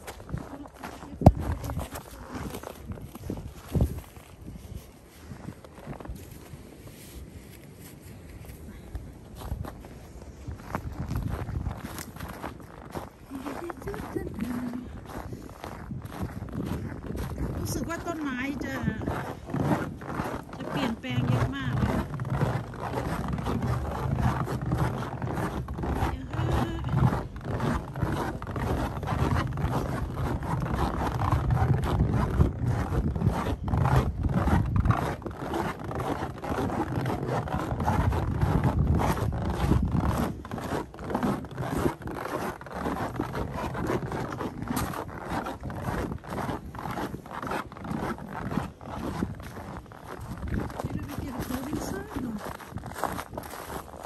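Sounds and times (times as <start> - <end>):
footsteps crunching in snow: 0.0 - 54.0
wind buffeting microphone: 0.0 - 54.0.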